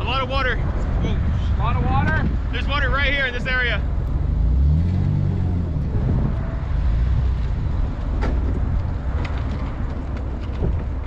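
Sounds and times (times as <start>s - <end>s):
vehicle engine running off-road: 0.0s - 11.0s.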